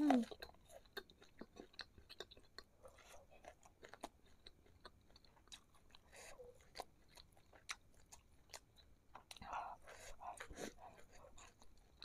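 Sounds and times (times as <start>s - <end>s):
faint chewing with mouth clicks: 0.0s - 12.0s.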